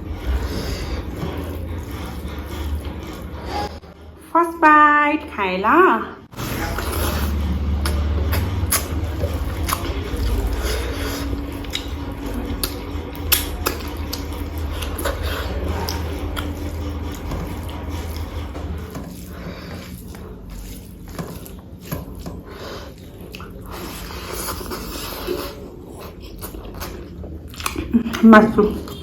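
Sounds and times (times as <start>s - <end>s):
person chewing food: 0.0s - 3.8s, 6.4s - 29.0s.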